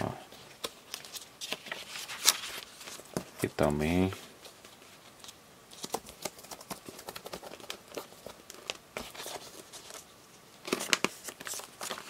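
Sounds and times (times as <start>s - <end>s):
album pages turning: 0.3s - 12.0s.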